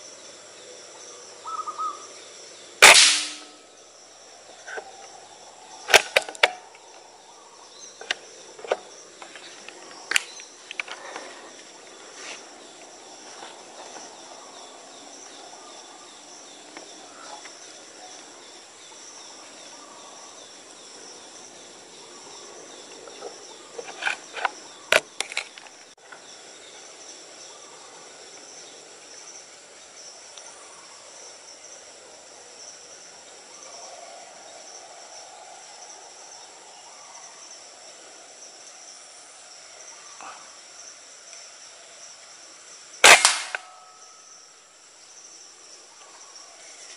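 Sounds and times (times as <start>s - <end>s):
forest insects chorus: 0.0s - 46.9s.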